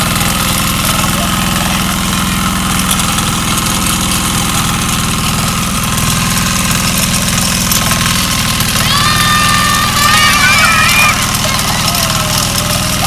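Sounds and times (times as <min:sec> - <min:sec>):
engine idling with rapid chug: 0:00.0 - 0:13.0.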